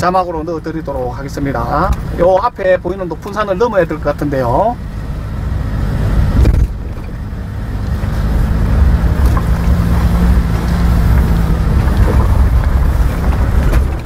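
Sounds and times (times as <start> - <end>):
tyres rumbling on gravel: 0.0 - 14.0
vehicle engine drone: 0.0 - 14.0.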